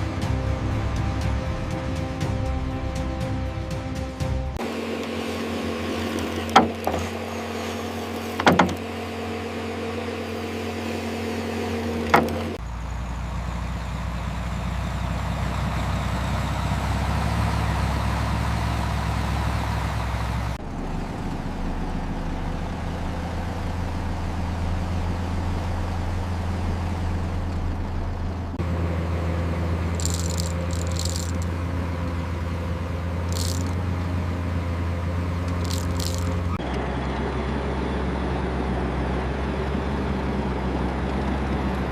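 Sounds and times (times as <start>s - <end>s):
heavy construction machine engine: 0.0s - 41.9s.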